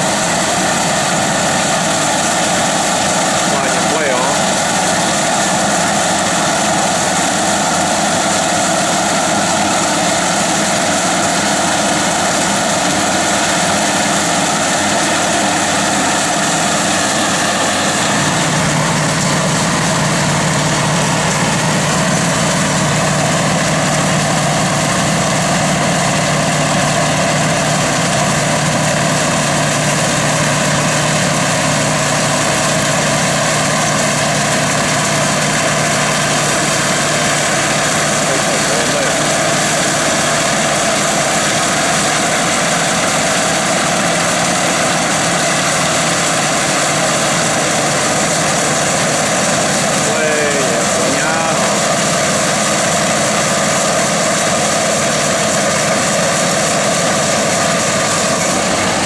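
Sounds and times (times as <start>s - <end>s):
tractor and combine mechanical drone: 0.0s - 59.0s.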